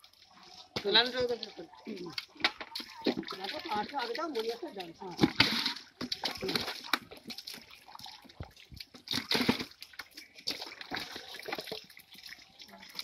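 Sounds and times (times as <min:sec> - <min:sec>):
metal pot scooping water: 0:00.0 - 0:13.0
water poured into bucket: 0:00.0 - 0:13.0
water splashing and sloshing: 0:00.0 - 0:13.0
fish thrashing in water: 0:02.2 - 0:13.0.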